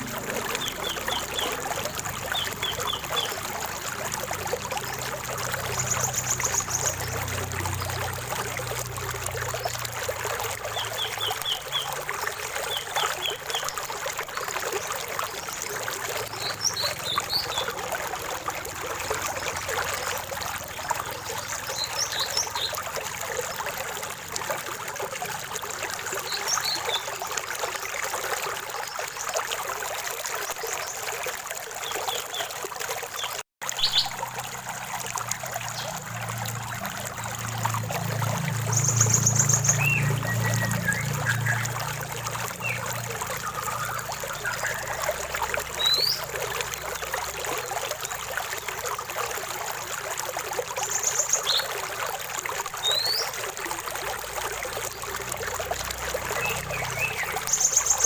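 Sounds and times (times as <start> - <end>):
water trickling in a stream: 0.0 - 58.0.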